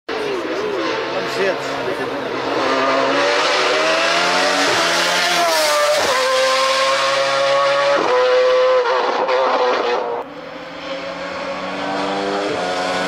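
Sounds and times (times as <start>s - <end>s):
racing car engine accelerating: 0.1s - 13.0s.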